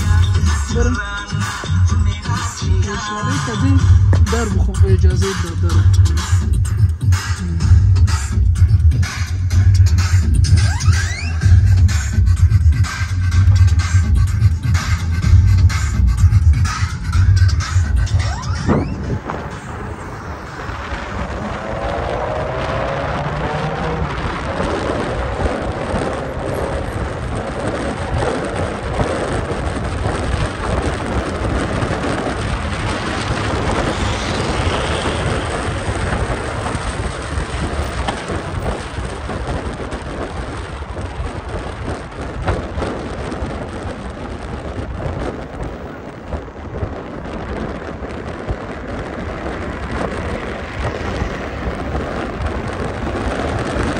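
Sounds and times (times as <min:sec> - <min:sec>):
car road noise: 0:00.0 - 0:53.9
wind buffeting microphone: 0:00.0 - 0:53.9.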